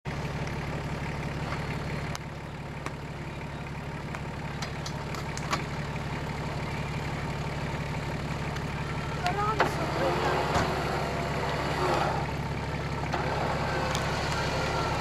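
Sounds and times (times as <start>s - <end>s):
car engine idling: 0.1s - 15.0s.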